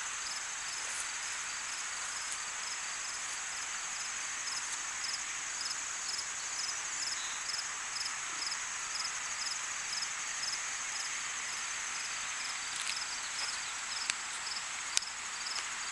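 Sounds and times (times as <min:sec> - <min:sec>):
crickets trilling: 0:00.0 - 0:15.9
hiss of insect song: 0:00.0 - 0:15.9
repeating insect chirp: 0:00.0 - 0:15.9.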